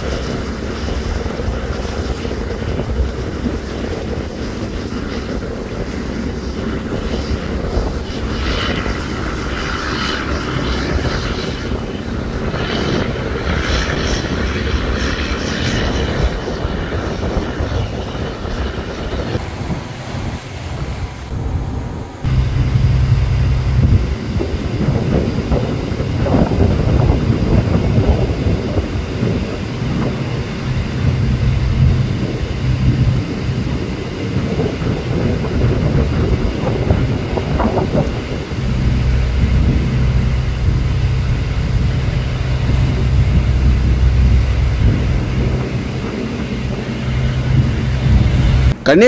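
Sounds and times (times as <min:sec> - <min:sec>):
rushing water: 0:00.0 - 0:15.6, 0:17.6 - 0:49.0
boat engine droning: 0:00.0 - 0:49.0
wind on microphone: 0:00.0 - 0:49.0.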